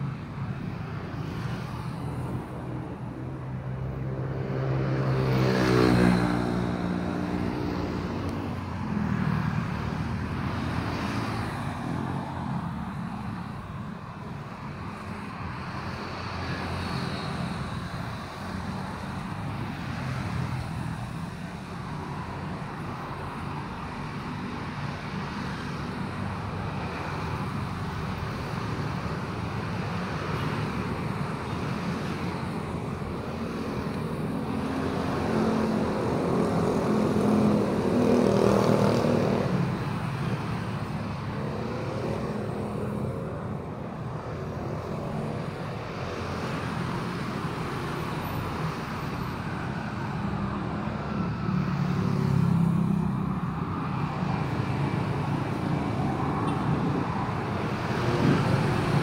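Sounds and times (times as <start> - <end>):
street traffic rumble: 0.0 - 59.0
vehicles passing: 0.0 - 59.0.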